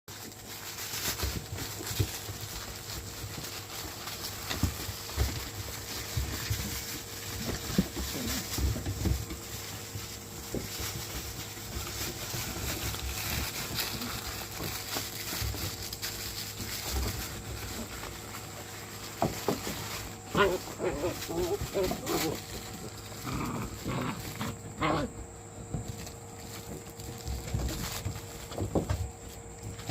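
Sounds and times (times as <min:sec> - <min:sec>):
patter of paws: 0:00.1 - 0:29.9
puppies scuffling: 0:00.1 - 0:29.9.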